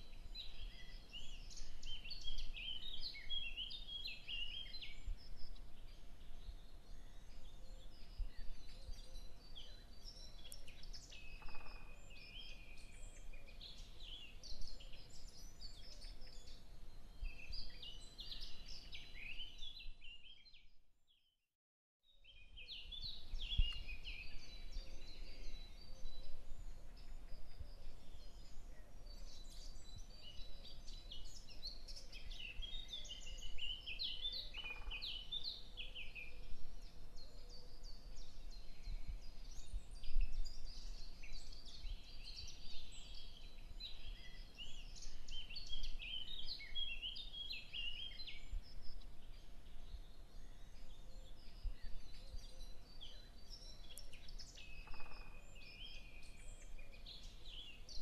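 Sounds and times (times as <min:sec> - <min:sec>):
small birds chirping: 0:00.0 - 0:20.8, 0:22.0 - 0:58.0.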